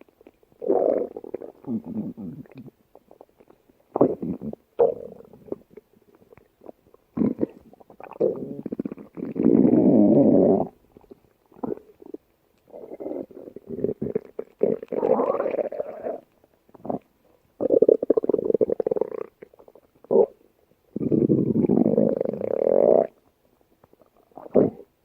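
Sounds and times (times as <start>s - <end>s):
stomach growling: 0.1s - 23.2s, 23.8s - 24.9s.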